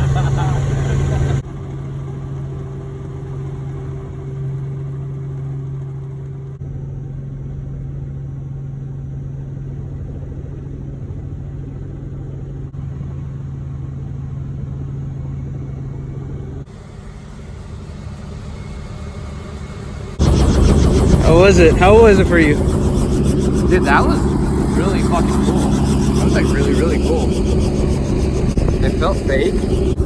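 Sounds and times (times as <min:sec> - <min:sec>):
helicopter droning: 0:00.0 - 0:30.0.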